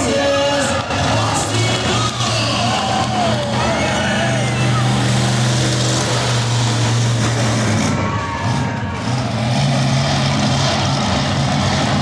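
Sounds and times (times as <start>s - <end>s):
truck engine running loudly: 0.0s - 12.0s.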